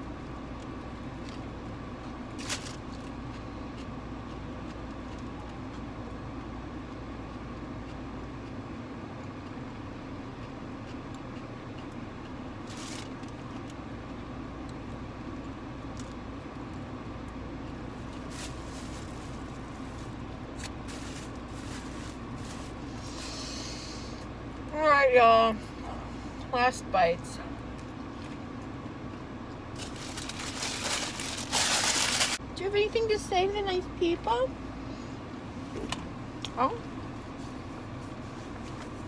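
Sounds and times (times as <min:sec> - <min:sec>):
car interior hum: 0:00.0 - 0:39.0.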